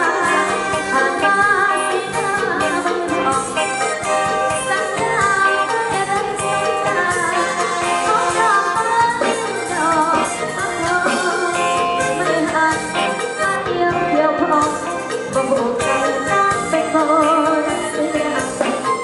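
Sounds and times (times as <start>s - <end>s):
bass guitar: 0.0s - 19.0s
drum kit: 0.0s - 19.0s
woman singing into microphone: 0.0s - 19.0s.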